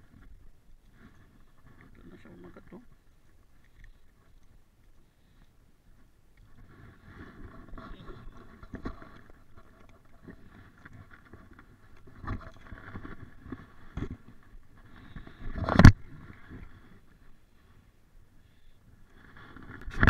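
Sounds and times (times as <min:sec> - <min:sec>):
faint rustling: 0:00.0 - 0:20.0.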